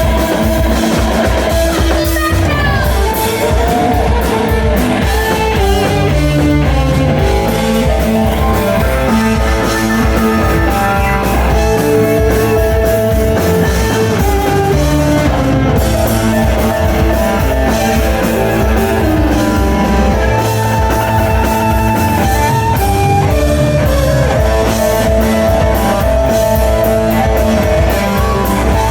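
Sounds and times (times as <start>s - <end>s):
drum kit: 0.0s - 28.9s
electric guitar: 0.0s - 28.9s.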